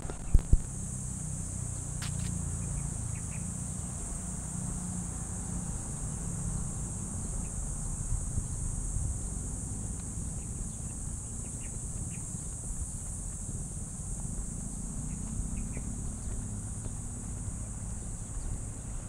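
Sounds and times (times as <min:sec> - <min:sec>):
insects droning: 0:00.0 - 0:19.0
wind rumble on microphone: 0:00.0 - 0:19.0.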